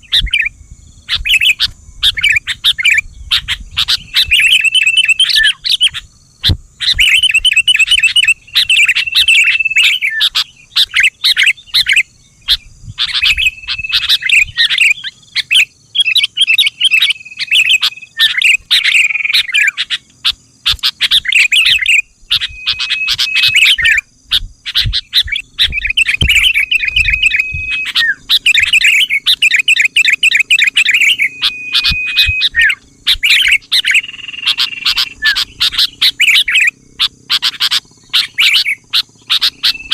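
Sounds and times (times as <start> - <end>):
bird chirping and whistling: 0.0 - 39.9.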